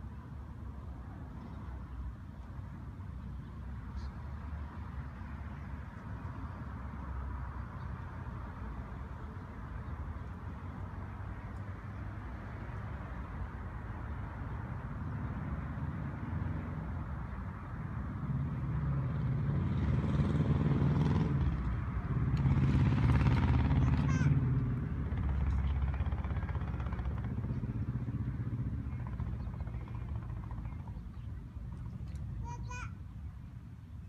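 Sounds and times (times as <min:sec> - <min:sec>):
vehicle driving past: 0:03.6 - 0:32.2.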